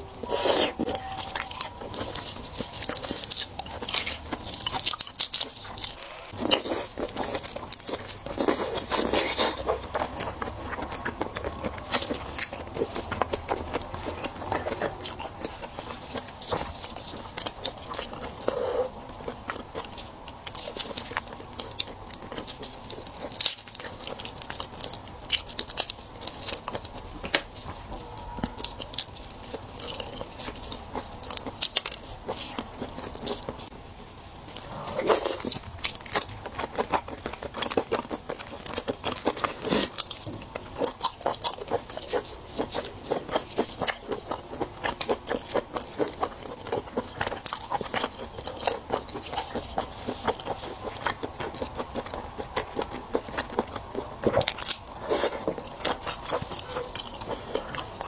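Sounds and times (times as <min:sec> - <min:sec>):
chewing and biting shrimp: 0:00.0 - 0:33.7, 0:34.6 - 0:58.0.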